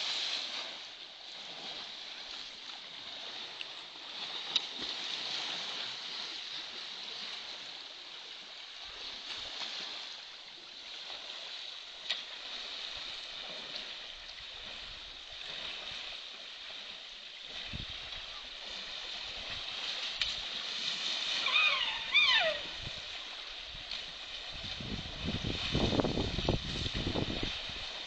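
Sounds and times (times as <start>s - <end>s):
rushing water hiss: 0.0s - 28.0s.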